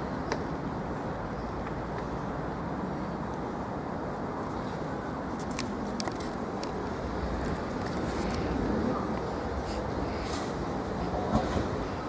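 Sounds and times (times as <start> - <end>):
low rumble of vehicle noise: 0.0 - 12.0.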